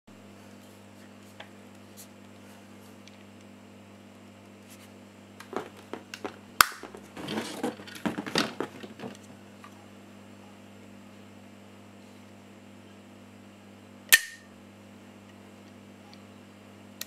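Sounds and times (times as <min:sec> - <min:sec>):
faint steady hum: 0:00.1 - 0:17.0.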